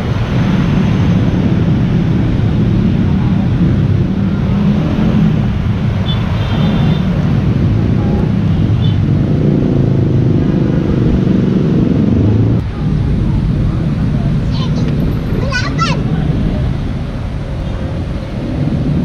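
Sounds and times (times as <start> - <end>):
car and motorcycle engines: 0.0 - 19.0.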